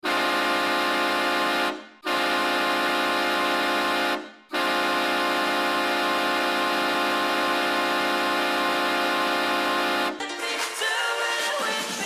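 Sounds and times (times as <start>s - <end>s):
hockey goal horn blasts: 0.0s - 10.2s.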